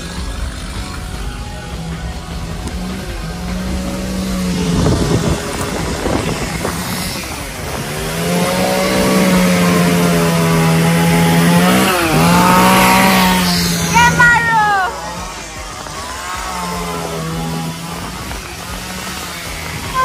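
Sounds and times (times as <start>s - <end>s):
rough scratchy noise: 0.0s - 20.0s
small engine running high speed: 0.0s - 20.0s.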